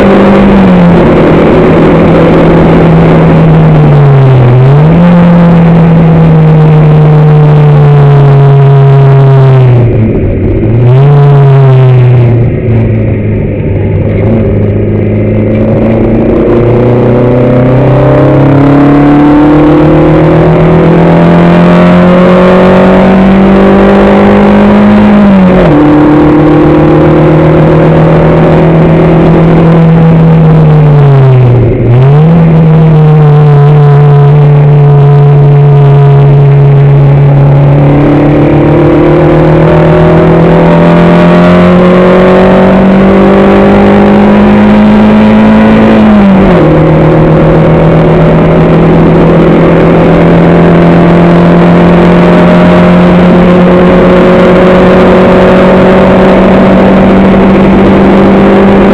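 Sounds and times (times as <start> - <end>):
racing car engine accelerating: 0.0 - 58.9.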